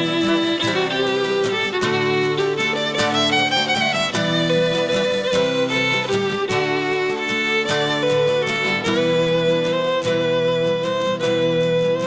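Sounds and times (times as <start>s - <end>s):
fiddle melody: 0.0s - 12.0s
light percussion: 0.0s - 12.0s
strummed strings: 0.0s - 12.0s.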